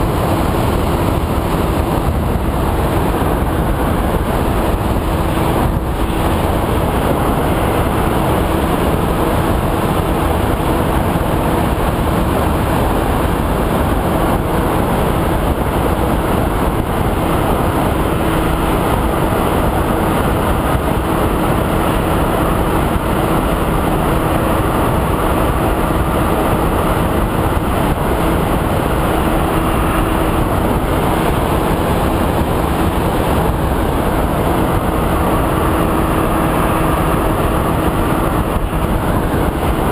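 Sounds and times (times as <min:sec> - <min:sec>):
air rushing past plane: 0:00.0 - 0:39.9
electric motor and propeller: 0:00.0 - 0:39.9.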